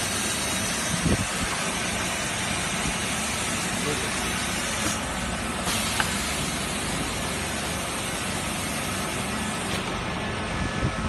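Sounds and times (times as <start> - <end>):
factory machinery hiss and hum: 0.0 - 11.0.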